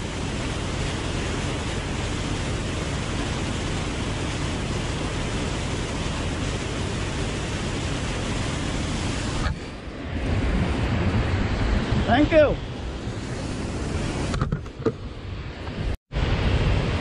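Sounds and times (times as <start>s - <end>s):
water rushing over spillway: 0.0s - 14.5s.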